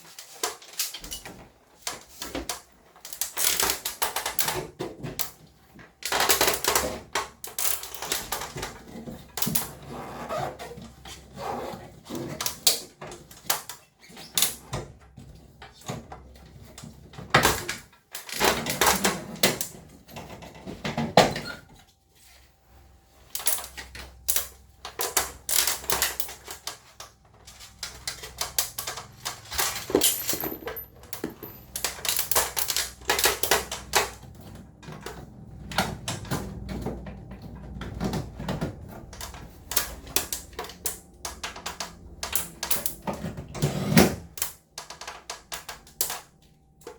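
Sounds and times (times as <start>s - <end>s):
plastic and metal parts clattering: 0.0s - 22.4s, 23.2s - 46.9s.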